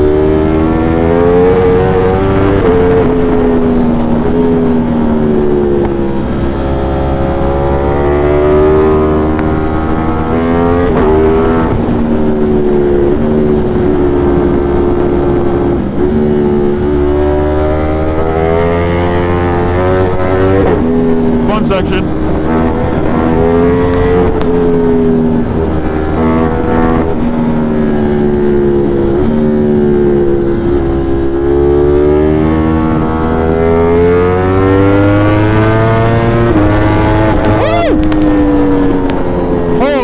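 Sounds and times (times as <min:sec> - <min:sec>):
motorcycle engine running hard: 0:00.0 - 0:40.0.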